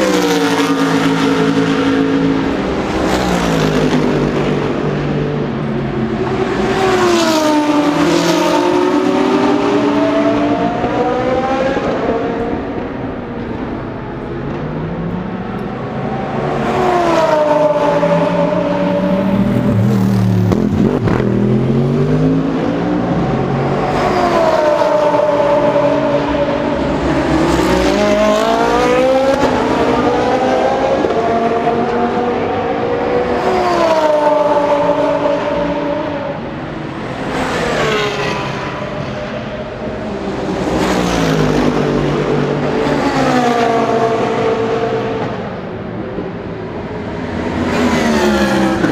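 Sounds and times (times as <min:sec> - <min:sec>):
race cars accelerating past: 0:00.0 - 0:48.9.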